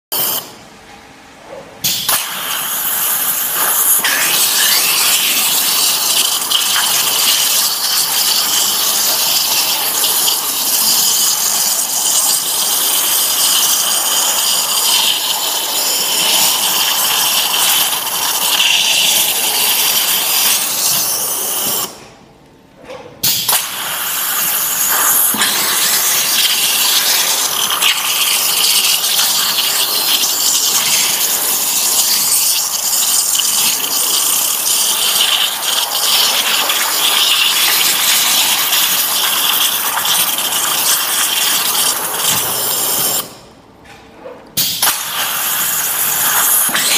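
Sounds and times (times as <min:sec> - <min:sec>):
waterjet cutter hissing: 0:01.8 - 0:22.0, 0:23.2 - 0:43.4, 0:44.6 - 0:46.9.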